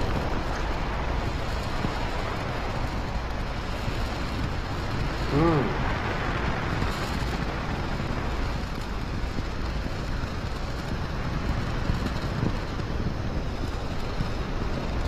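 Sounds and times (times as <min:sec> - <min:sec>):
rocket engines rumbling: 0:00.0 - 0:15.0.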